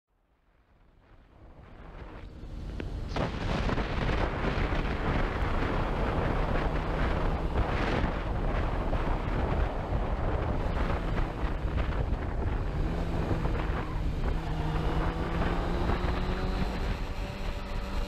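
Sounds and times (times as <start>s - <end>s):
motorcycle engine running: 1.2s - 18.0s
wind buffeting microphone: 1.2s - 18.0s.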